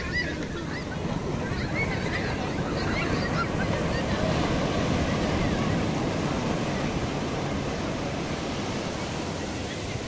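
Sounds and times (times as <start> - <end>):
breaking surf: 0.0 - 10.0.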